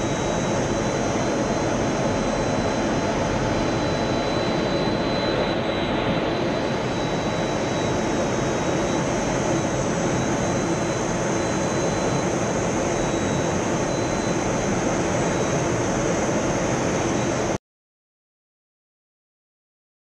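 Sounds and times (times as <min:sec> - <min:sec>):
faint high whine: 0:00.0 - 0:17.6.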